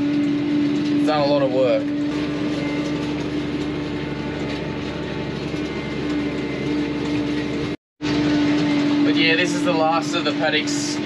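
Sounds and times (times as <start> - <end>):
tractor engine drone: 0.0 - 11.0.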